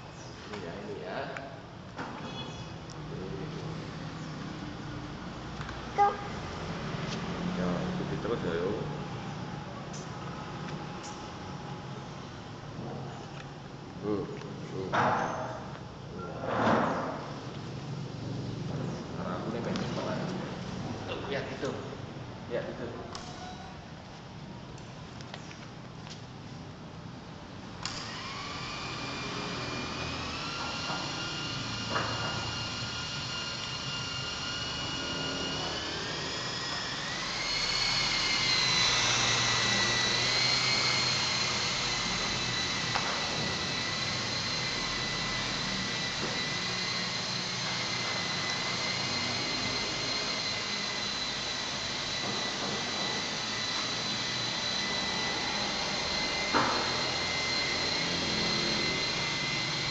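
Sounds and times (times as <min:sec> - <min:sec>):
model helicopter whine: 0:02.2 - 0:15.7, 0:19.0 - 0:23.8, 0:27.8 - 0:59.9.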